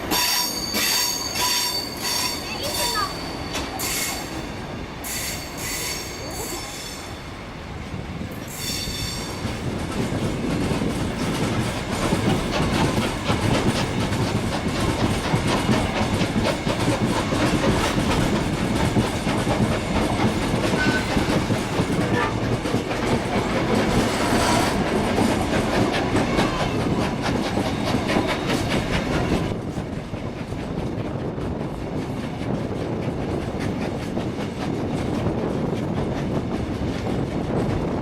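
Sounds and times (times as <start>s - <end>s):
train wheels clacking on rails: 0.0s - 7.4s, 8.2s - 38.0s.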